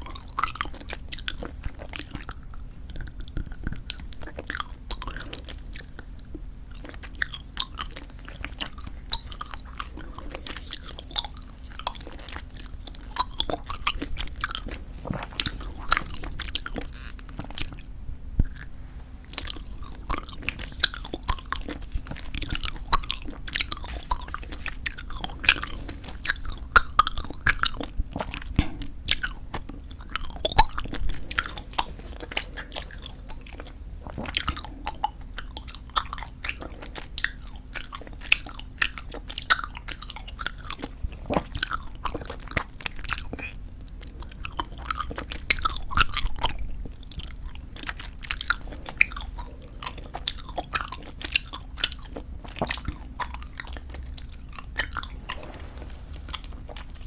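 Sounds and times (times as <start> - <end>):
gum chewing wet smacks: 0.0 - 57.0.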